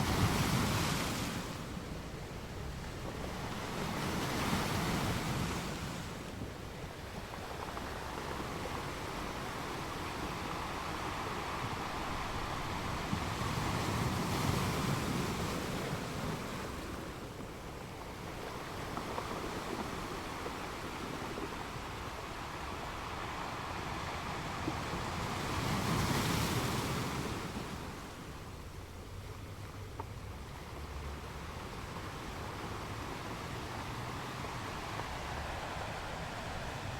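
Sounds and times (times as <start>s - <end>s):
sea waves washing onto shore: 0.0s - 36.9s.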